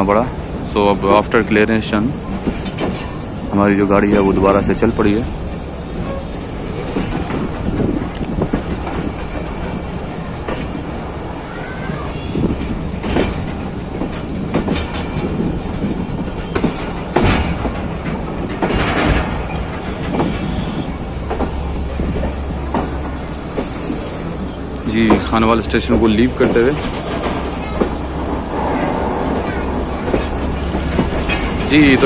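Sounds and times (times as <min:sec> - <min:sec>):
passenger train rolling: 0:00.0 - 0:32.0
wheels clicking over rail joints: 0:00.0 - 0:32.0.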